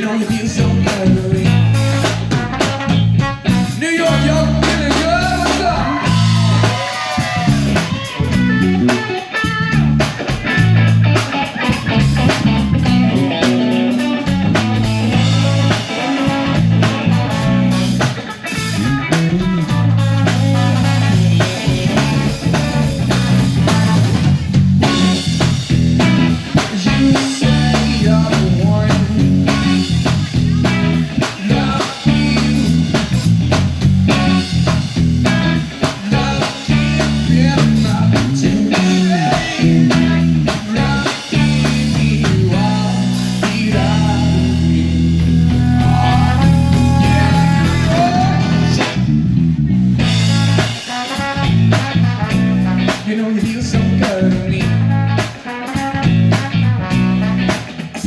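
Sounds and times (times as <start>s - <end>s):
live rock band instrumental: 0.0s - 58.0s.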